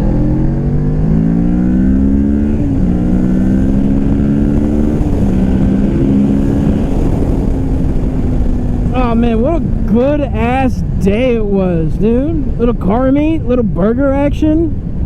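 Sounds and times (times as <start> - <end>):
motorcycle engine accelerating: 0.0 - 12.8
wind rumble: 0.0 - 15.0.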